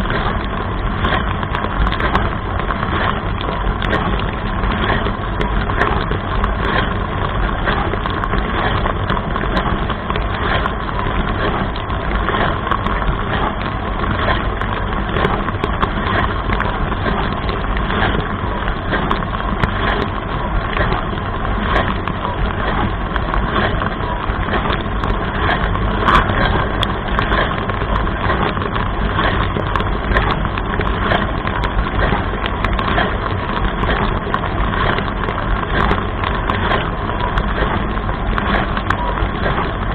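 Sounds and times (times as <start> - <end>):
dishwasher pump drone: 0.0 - 39.9
sharp ticks of water: 0.0 - 39.9
water splashing inside tub: 0.0 - 39.9.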